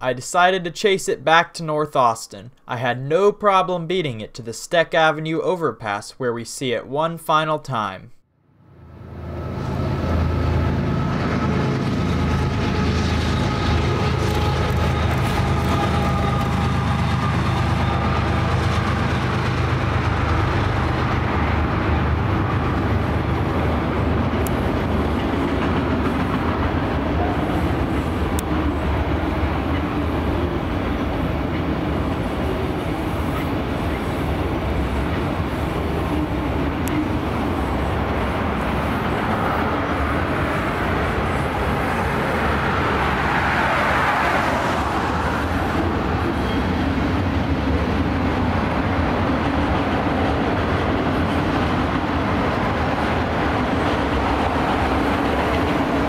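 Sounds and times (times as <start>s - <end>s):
train wheels rumbling on rail: 9.1s - 56.0s.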